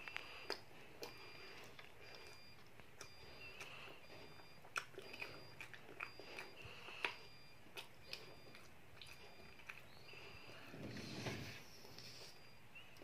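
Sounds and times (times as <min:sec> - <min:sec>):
quiet chewing: 0:00.0 - 0:13.0.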